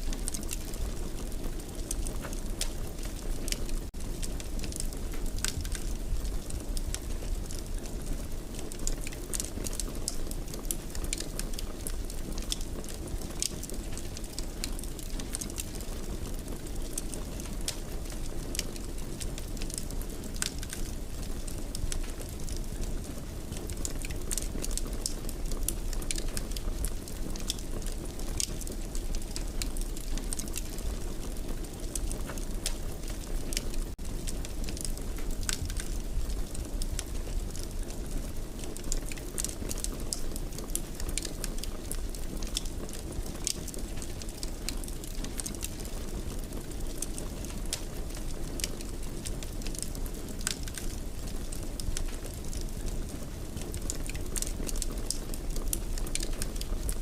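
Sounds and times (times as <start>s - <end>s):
fire popping and snapping: 0.0s - 57.0s
wood fire crackling: 0.0s - 57.0s.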